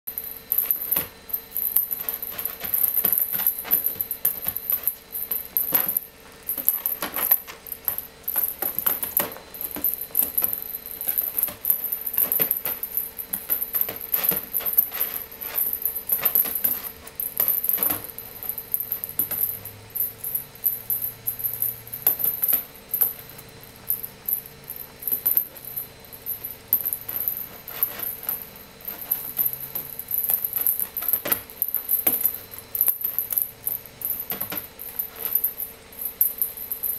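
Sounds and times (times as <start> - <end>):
cat toy clattering and jingling: 0.1 - 36.9.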